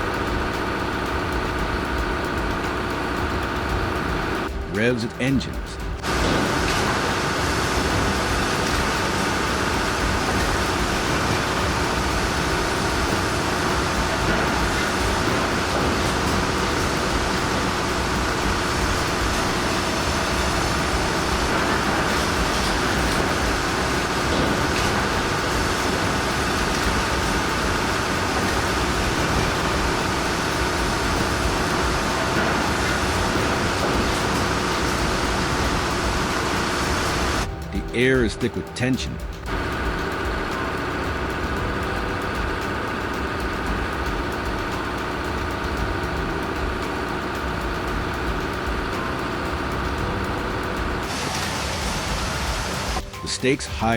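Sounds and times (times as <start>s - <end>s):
heavy machinery engines droning: 0.0s - 53.9s.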